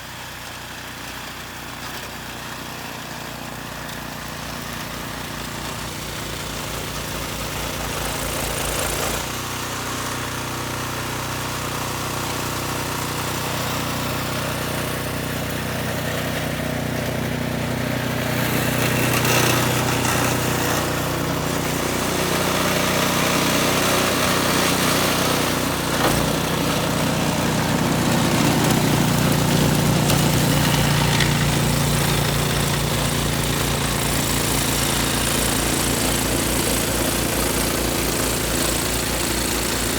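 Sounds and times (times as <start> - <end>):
engine running: 0.3 - 39.9.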